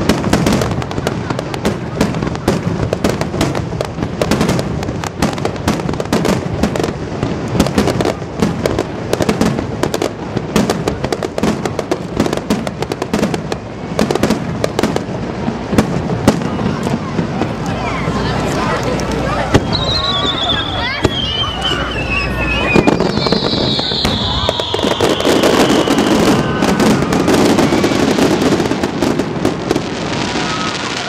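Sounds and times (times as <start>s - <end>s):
firework bangs and crackles: 0.0s - 31.0s.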